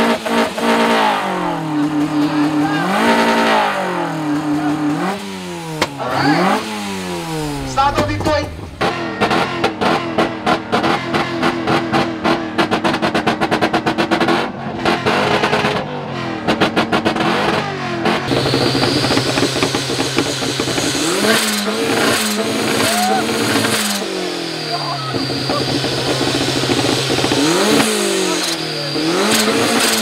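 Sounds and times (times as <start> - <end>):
car engine revving at limiter: 0.0 - 30.0.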